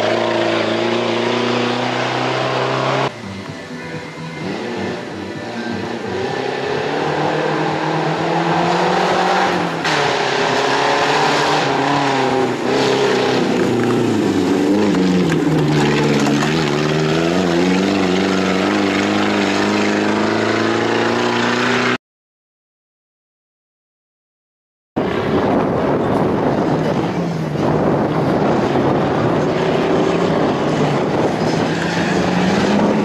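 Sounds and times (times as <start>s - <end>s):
race vehicle engine revving: 0.0s - 22.0s, 25.0s - 33.0s.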